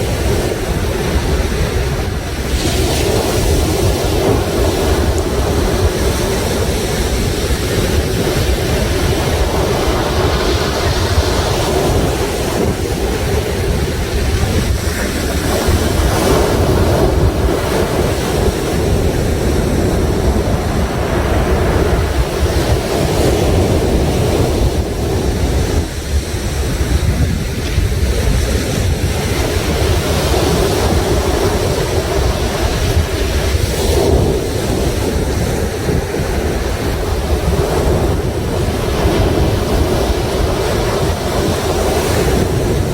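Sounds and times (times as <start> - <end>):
sea waves washing ashore: 0.0 - 42.9
wind rumbling on microphone: 0.0 - 42.9.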